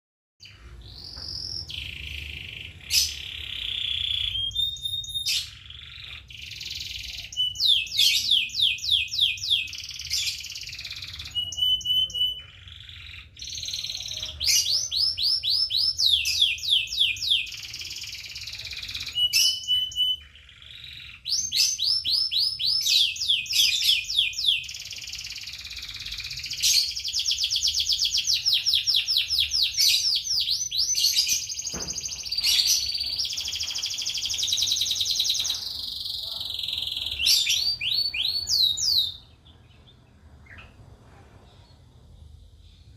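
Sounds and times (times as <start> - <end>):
songbird singing: 0.4 - 40.8.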